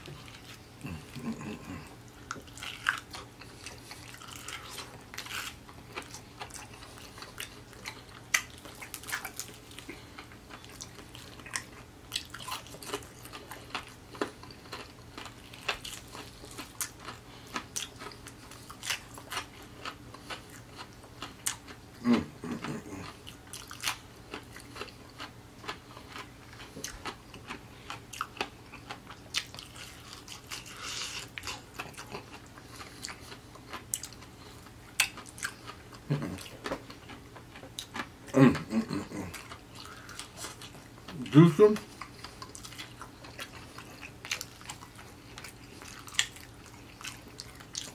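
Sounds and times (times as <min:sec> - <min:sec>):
crunching fried chicken: 0:00.1 - 0:47.9.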